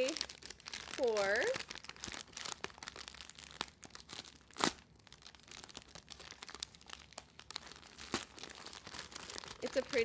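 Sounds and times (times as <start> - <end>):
gift wrapping crinkling: 0.0 - 10.0.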